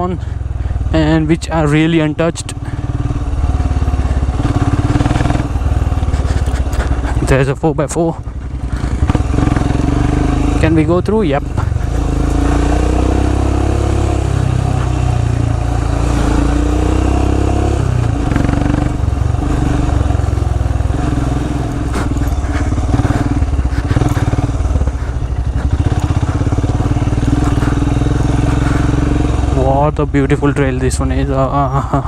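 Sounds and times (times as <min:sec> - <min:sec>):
motorcycle engine at low revs: 0:00.0 - 0:32.0.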